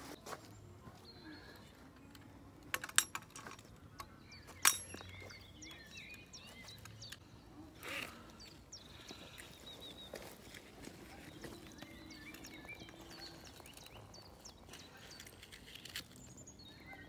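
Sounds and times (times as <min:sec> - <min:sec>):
small birds chirping: 0:00.1 - 0:02.7, 0:03.3 - 0:17.0.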